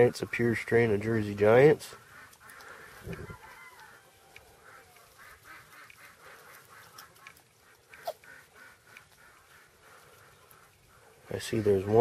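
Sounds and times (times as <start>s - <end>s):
chickens clucking softly: 1.9s - 12.0s.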